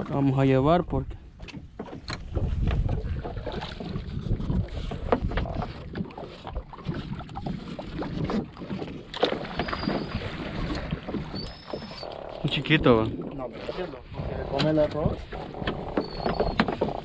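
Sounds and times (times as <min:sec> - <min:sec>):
net rustling and knocking on hull: 0:01.4 - 0:13.6, 0:14.5 - 0:17.0.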